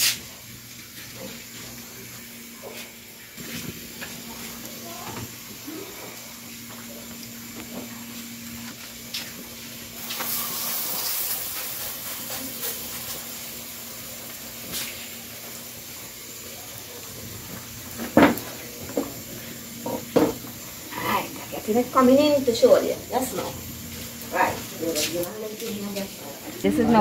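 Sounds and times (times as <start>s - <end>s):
wood fire hissing and crackling: 0.0s - 27.0s.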